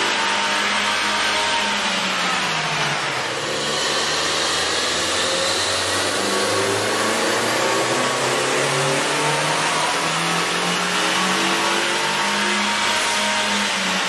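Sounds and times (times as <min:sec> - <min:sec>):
car engine revving on dyno: 0:00.0 - 0:14.0
loud rushing hiss: 0:02.0 - 0:13.9.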